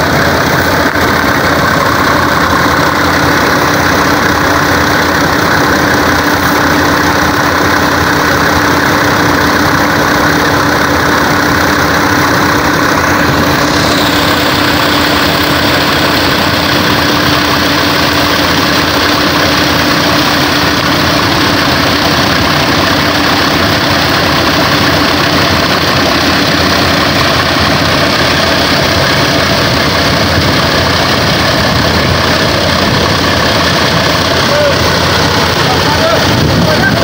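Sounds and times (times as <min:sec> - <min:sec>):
combine harvester running: 0:00.0 - 0:37.0.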